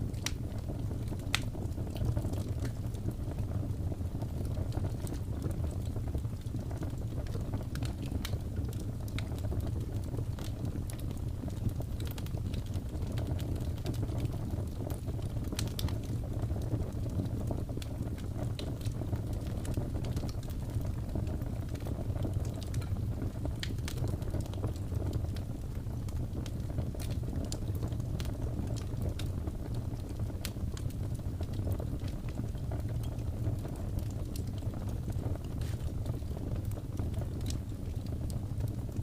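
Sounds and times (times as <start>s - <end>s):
low fire rumble: 0.0s - 39.0s
wood fire crackling and popping: 0.0s - 39.0s.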